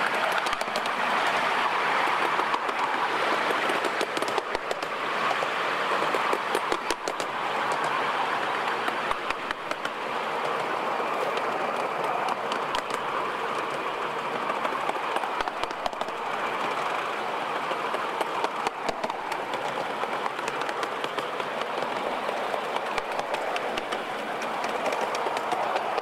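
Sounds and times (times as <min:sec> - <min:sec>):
miniature train running noise: 0:00.0 - 0:26.0
wheels clicking over rail joints: 0:00.0 - 0:26.0.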